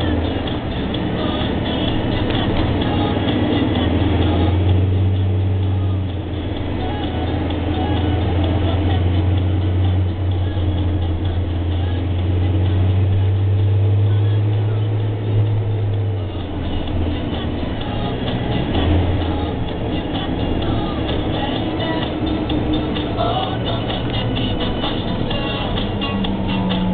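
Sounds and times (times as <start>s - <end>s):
road noise: 0.0s - 26.9s
vehicle engine drone: 0.0s - 26.9s.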